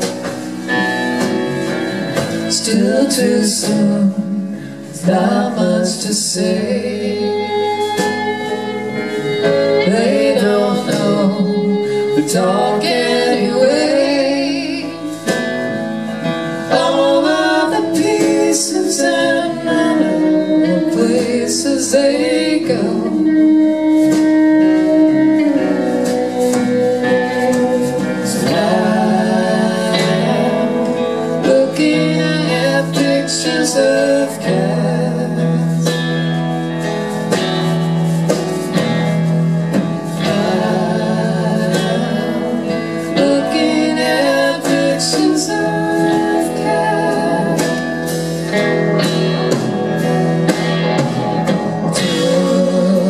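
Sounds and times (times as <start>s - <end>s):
drum kit with cymbals: 0.0s - 53.0s
electric guitars: 0.0s - 53.0s
person singing: 0.0s - 53.0s
piano: 0.0s - 53.0s.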